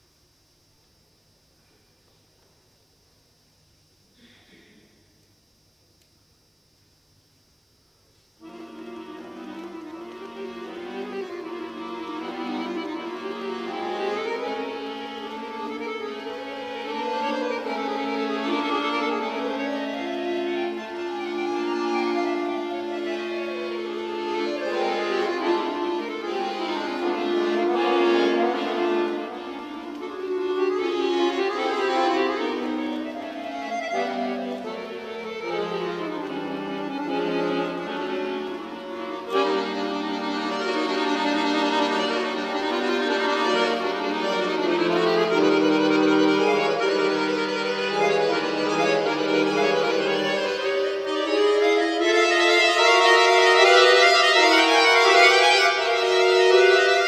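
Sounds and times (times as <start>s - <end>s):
button accordion playing: 8.4s - 57.0s.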